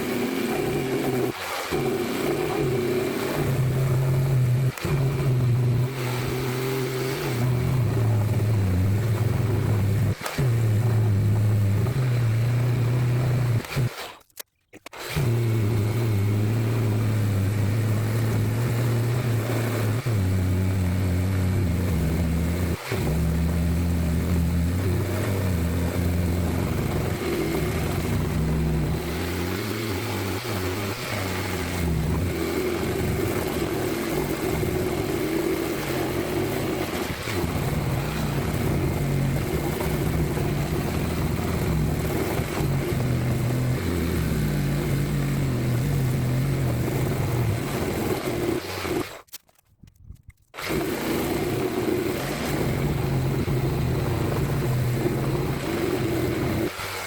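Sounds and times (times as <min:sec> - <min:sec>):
power sander motor hum: 0:00.0 - 0:49.3, 0:50.6 - 0:57.0.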